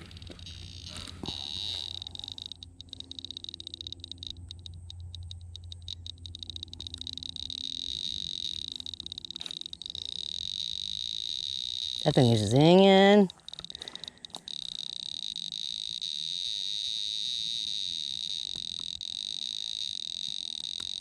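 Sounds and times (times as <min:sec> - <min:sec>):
high electronic alarm tone: 0:00.0 - 0:21.0.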